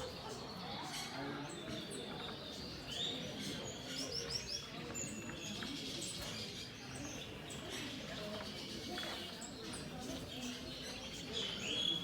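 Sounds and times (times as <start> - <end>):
birds chirping and tweeting: 0.0 - 12.0.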